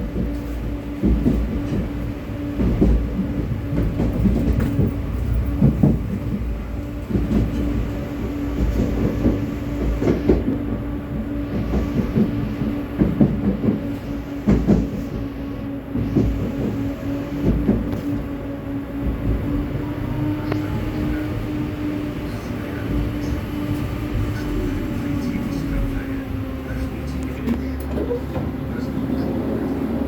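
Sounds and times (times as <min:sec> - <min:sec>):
wheels knocking on rails: 0:00.0 - 0:15.3, 0:15.9 - 0:29.5
tram running along track: 0:00.0 - 0:30.0.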